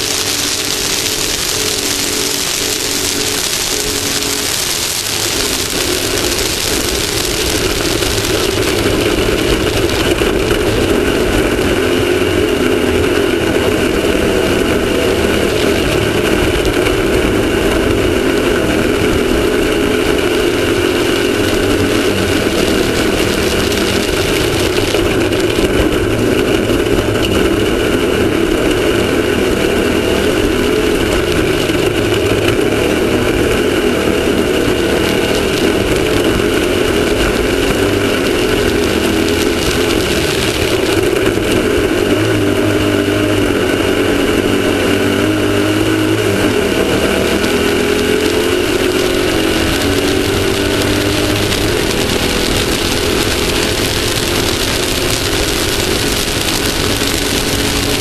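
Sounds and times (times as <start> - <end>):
off-road vehicle engine running hard: 0.0 - 58.0
wind and terrain noise: 0.0 - 58.0.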